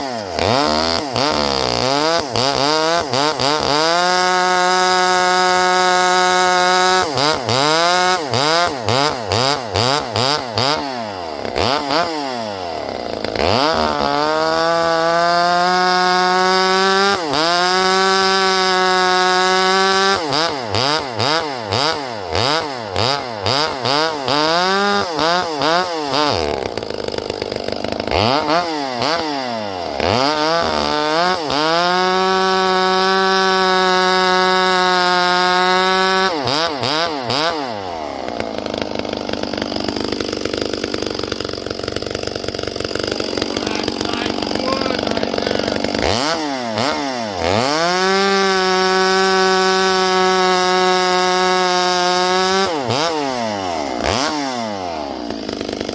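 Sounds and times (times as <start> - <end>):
chainsaw engine revving: 0.0 - 55.9.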